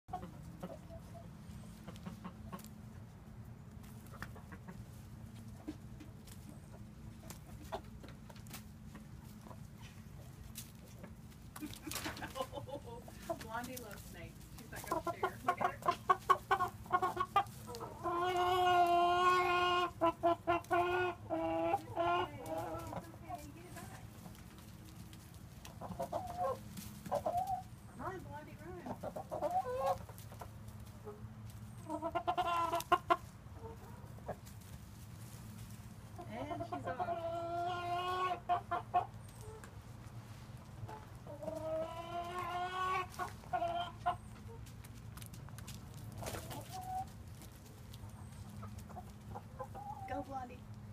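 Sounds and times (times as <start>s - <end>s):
hens squawking and clucking: 0.1s - 50.9s.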